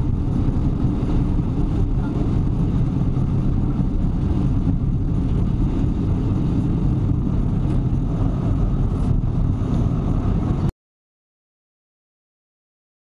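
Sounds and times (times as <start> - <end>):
diesel train rumbling: 0.0 - 10.7.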